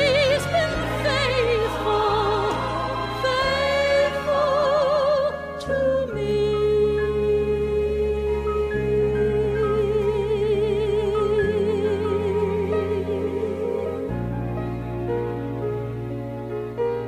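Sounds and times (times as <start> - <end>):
woman singing gospel ballad: 0.0 - 14.1
instrumental accompaniment: 0.0 - 17.0.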